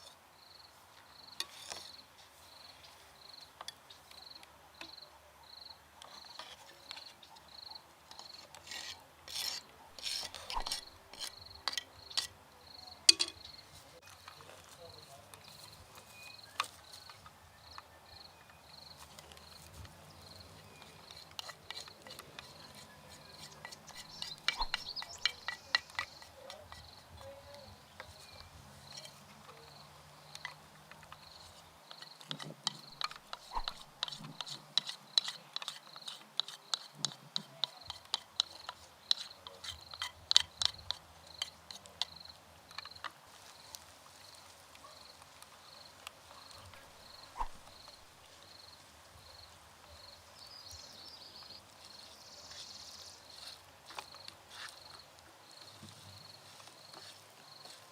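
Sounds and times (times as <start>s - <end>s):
cricket chirping: 0.0s - 8.4s, 10.0s - 36.9s, 37.6s - 57.8s.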